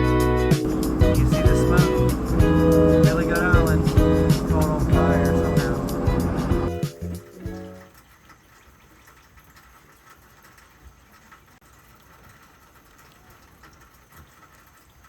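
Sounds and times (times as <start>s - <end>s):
faint rain pattering: 0.6s - 15.0s.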